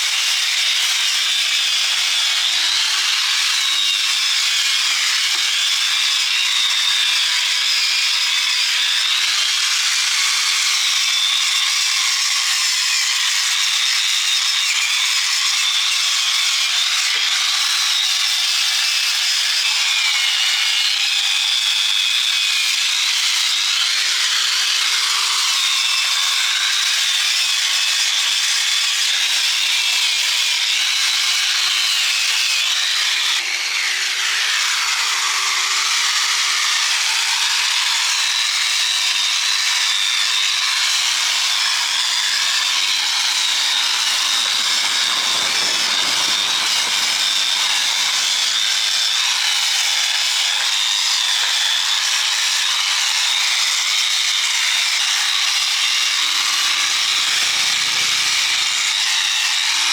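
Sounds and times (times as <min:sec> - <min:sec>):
power tool grinding steel: 0:00.0 - 0:59.9.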